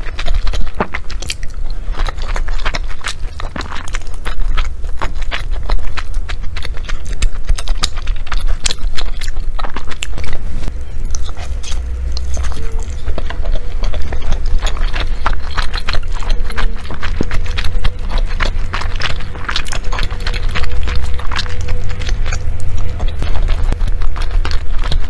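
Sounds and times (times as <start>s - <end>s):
close chewing with mouth clicks: 0.0s - 25.0s.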